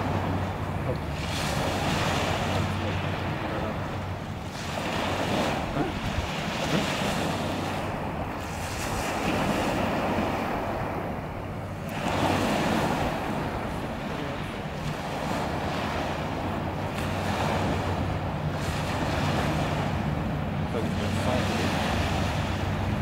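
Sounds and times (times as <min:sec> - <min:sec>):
waves washing up shingle beach: 0:00.0 - 0:23.0
wind buffeting microphone: 0:00.0 - 0:23.0.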